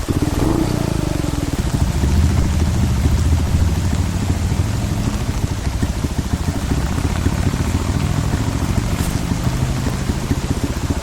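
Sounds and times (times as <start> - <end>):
heavy rain pattering: 0.0 - 11.0
low engine hum: 0.0 - 11.0.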